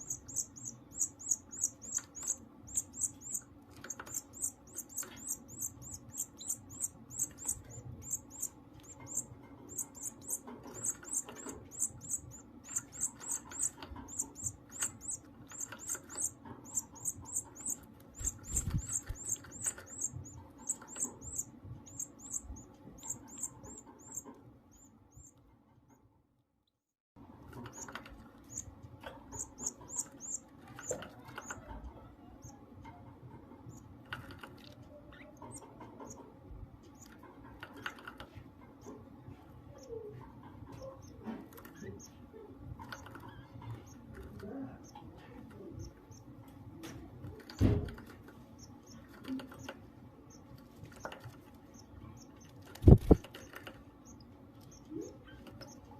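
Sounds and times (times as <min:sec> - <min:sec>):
chick peeping high-pitched: 0:00.0 - 0:25.4, 0:27.6 - 0:46.4, 0:47.3 - 0:55.9
scratching and clicking in cage: 0:00.0 - 0:26.1, 0:27.2 - 0:55.9.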